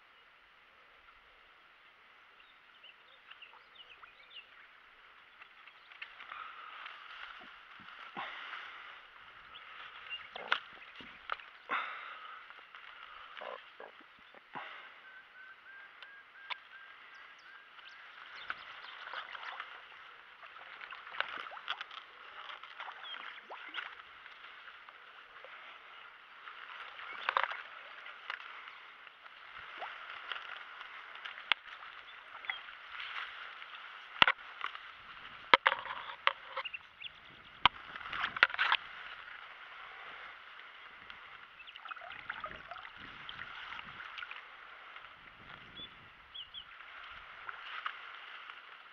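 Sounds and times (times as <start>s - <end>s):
water splashing and sloshing: 3.2s - 15.1s, 15.9s - 48.9s.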